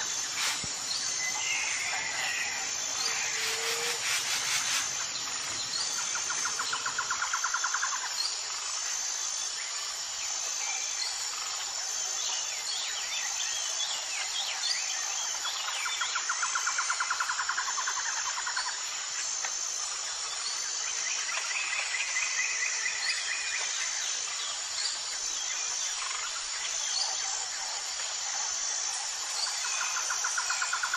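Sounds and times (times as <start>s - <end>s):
pulsing high insect buzz: 0.0s - 30.9s.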